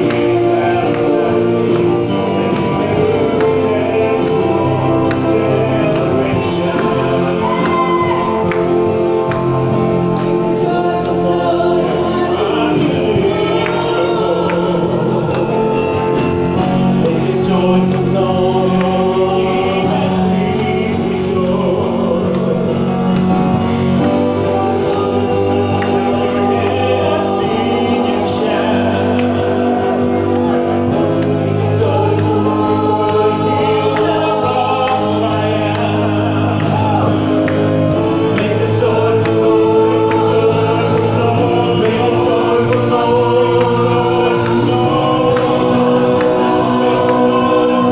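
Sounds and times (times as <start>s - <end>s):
church choir singing a hymn: 0.0s - 47.9s.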